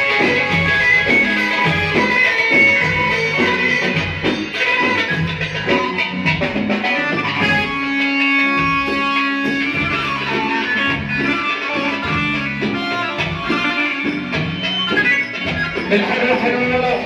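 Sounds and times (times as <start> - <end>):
amplified live band instrumental: 0.0 - 17.0.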